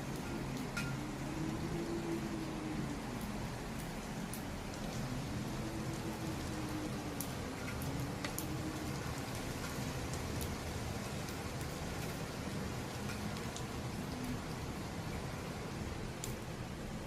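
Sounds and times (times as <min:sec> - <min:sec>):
heavy rain: 0:00.0 - 0:17.0
wind howling: 0:00.0 - 0:17.0.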